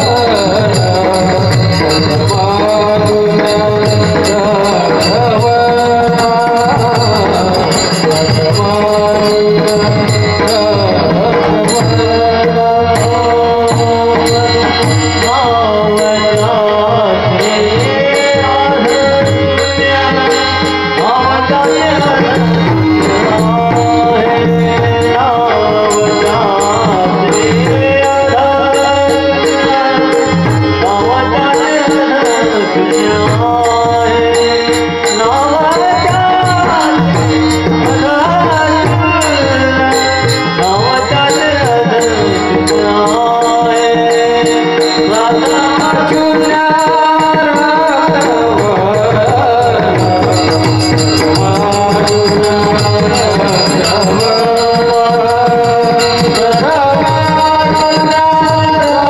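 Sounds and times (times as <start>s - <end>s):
hand drum: 0.0s - 59.0s
person singing melody: 0.0s - 59.0s.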